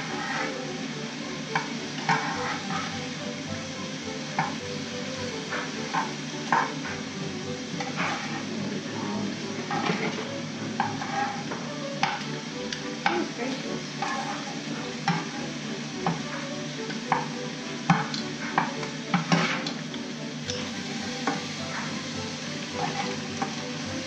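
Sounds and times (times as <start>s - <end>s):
metal utensils clicking on pans: 0.0s - 3.2s, 4.1s - 8.8s, 9.5s - 24.0s
shrimp sizzling in a skillet: 0.0s - 24.0s.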